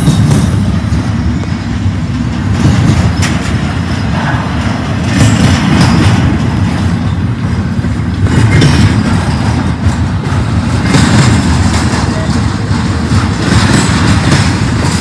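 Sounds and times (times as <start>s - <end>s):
freight train rumbling past: 0.0s - 15.0s
train wheels clacking: 0.0s - 15.0s.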